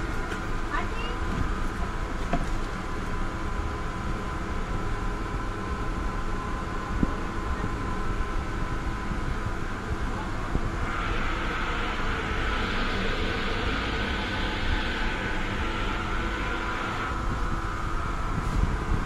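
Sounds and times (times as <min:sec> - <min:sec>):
mechanical hum with thin whine: 0:00.0 - 0:19.0.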